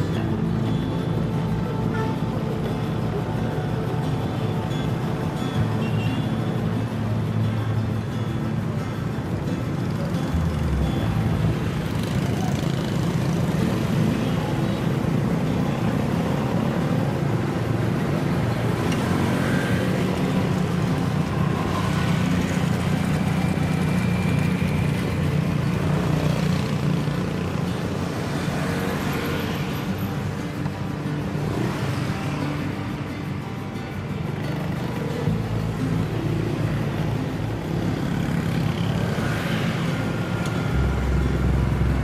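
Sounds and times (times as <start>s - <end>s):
city road traffic: 0.0s - 42.0s.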